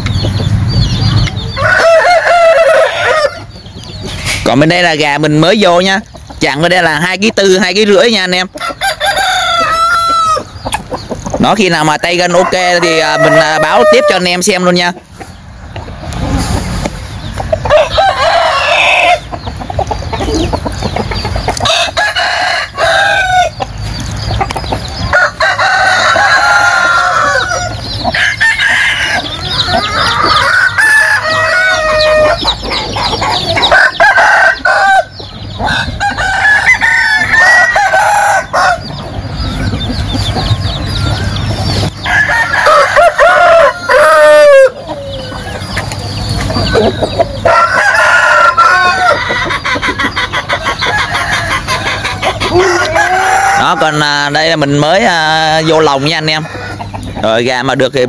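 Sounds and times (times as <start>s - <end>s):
roosters crowing and clucking: 0.0s - 58.0s.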